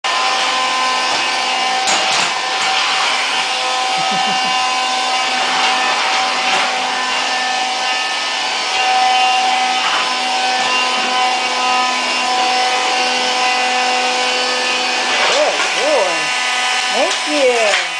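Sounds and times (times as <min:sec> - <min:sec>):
vacuum motor whine: 0:00.1 - 0:17.9.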